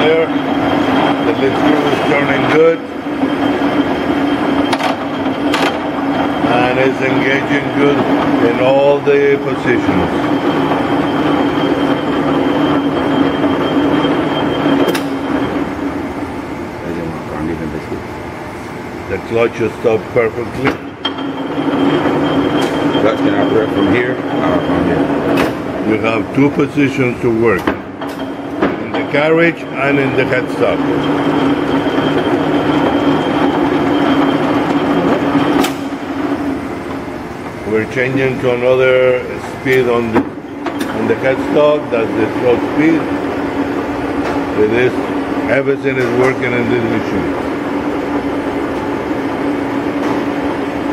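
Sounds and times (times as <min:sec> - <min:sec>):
lathe motor whine: 0:00.0 - 0:50.9.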